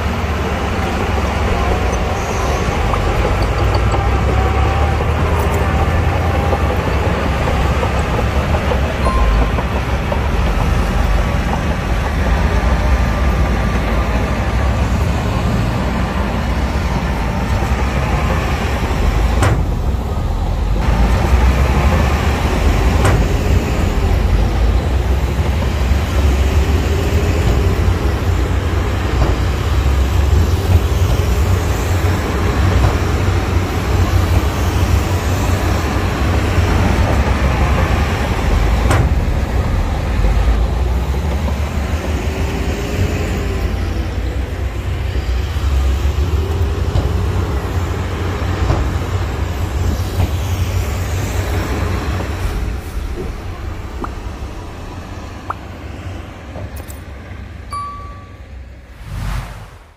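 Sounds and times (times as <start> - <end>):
diesel machinery rumbling: 0.0 - 59.3.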